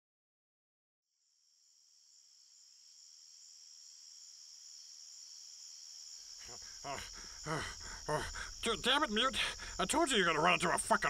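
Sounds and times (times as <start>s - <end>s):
crickets chirping: 1.1s - 11.0s.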